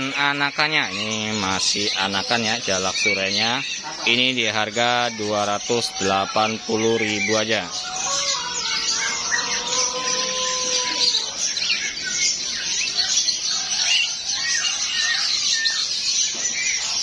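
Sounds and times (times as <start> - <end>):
chorus of birds chirping: 0.0 - 17.0
sharp falling bird calls: 0.0 - 17.0.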